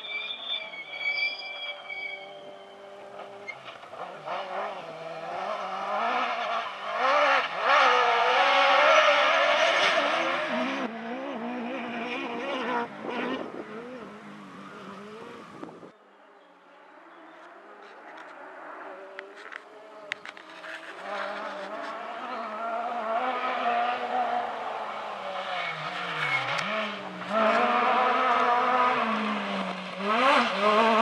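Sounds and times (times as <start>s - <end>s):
rally car engine revving by: 1.8s - 15.9s, 18.5s - 31.0s.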